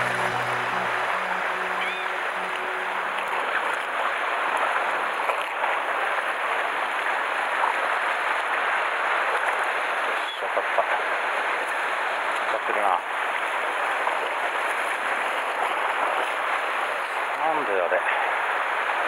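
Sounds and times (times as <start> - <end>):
sea water splashing against rocks: 1.8 - 17.7.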